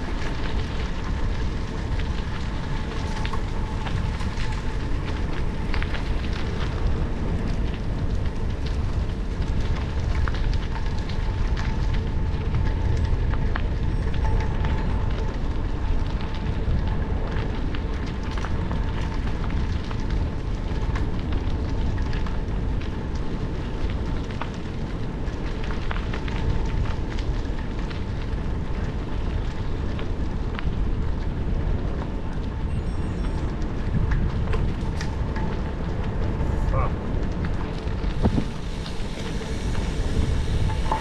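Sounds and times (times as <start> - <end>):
bicycle tyres rolling over gravel: 0.0 - 41.0.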